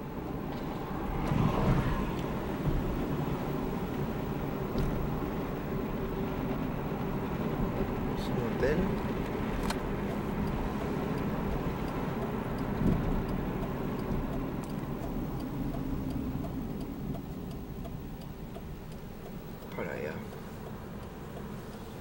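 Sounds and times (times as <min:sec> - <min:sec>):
car engine hum and road noise: 0:00.0 - 0:22.0.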